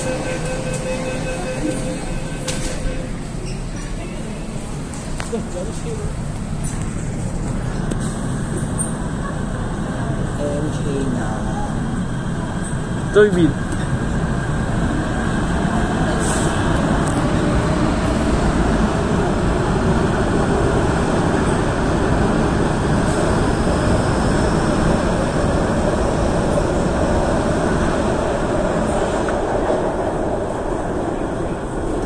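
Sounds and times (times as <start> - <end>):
metro train passing in tunnel: 0.0 - 32.0.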